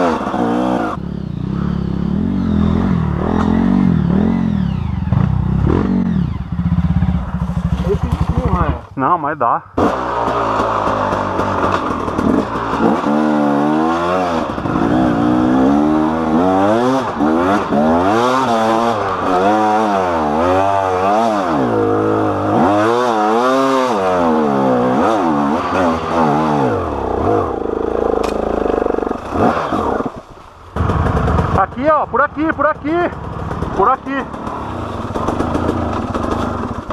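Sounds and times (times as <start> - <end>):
two-stroke dirt bike engine revving: 0.0 - 8.9, 9.8 - 36.9.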